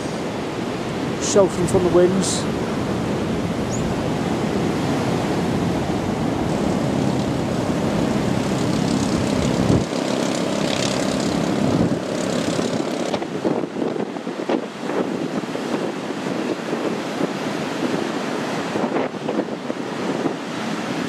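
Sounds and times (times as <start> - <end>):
surf hiss: 0.0 - 21.0
wind buffeting microphone: 0.0 - 21.0.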